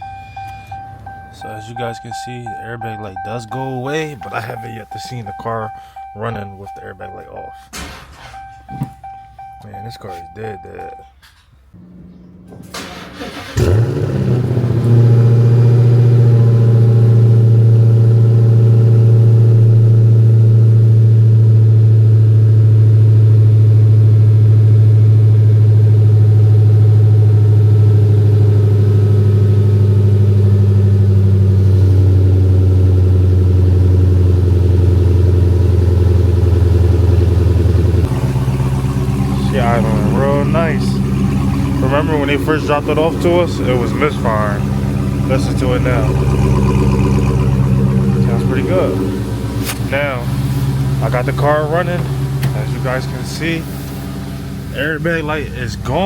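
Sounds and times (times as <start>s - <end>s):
car engine cranking and idling: 0.0s - 56.0s.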